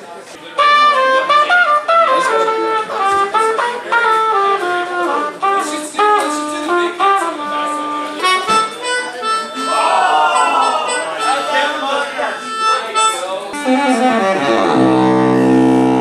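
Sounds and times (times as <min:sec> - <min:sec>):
reed wind instrument: 0:00.4 - 0:16.0
trumpet: 0:00.4 - 0:16.0.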